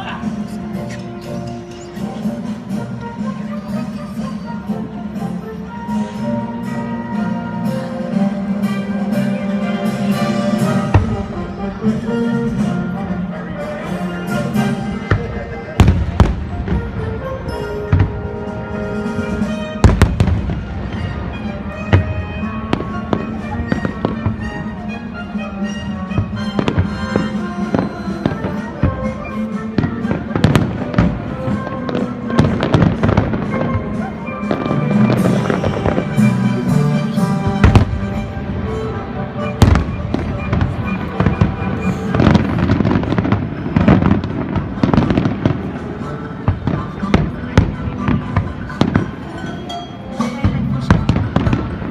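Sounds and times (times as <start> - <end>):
steady music: 0.0 - 51.9
fireworks bursting: 0.2 - 51.9.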